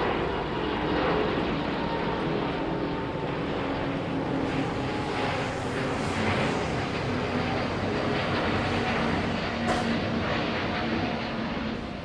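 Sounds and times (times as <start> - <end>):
jet airliner engines rushing: 0.0 - 12.0.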